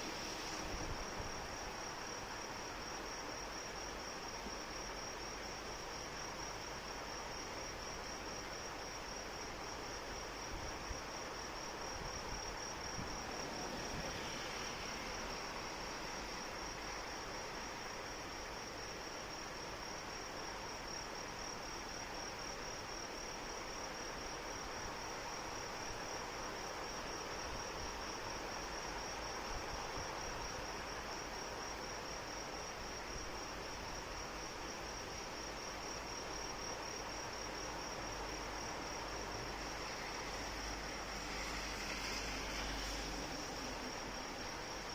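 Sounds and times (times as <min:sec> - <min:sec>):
crickets trilling: 0:00.0 - 0:44.9
falling rain hiss: 0:00.0 - 0:44.9.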